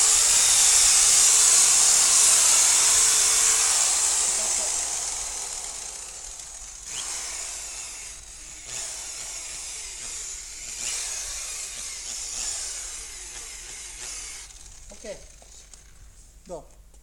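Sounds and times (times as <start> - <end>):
polisher rubbing car paint: 0.0 - 15.6.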